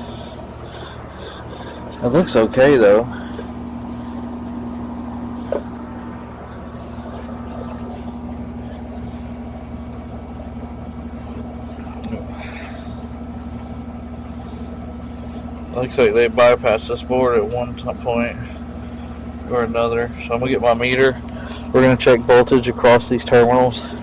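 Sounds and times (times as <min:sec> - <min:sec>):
air conditioner hum: 0:00.0 - 0:24.0.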